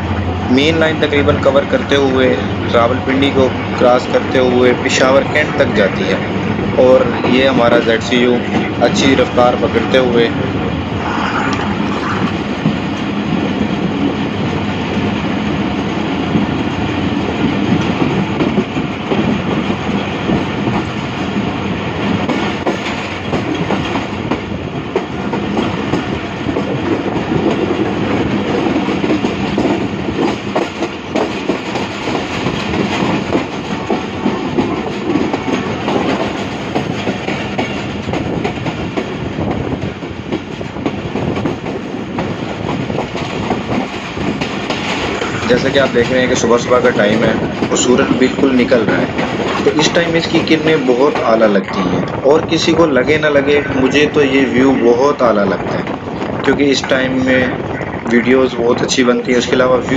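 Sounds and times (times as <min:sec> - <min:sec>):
rail joints clickety-clack: 0:00.0 - 0:59.9
train wheels rumbling on rails: 0:00.0 - 0:59.9.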